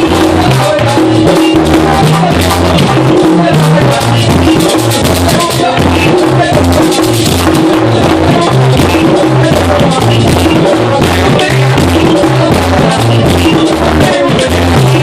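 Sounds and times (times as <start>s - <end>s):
accordion: 0.0s - 15.0s
drum beat: 0.0s - 15.0s
electric bass line: 0.0s - 15.0s.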